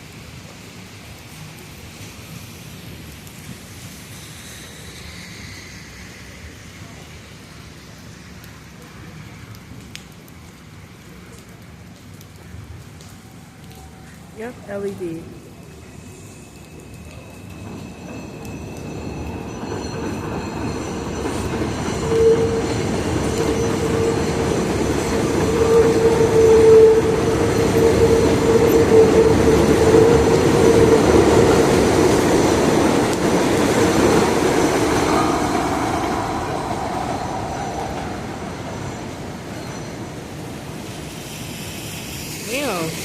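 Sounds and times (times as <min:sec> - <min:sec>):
subway train passing: 0:00.0 - 0:43.0.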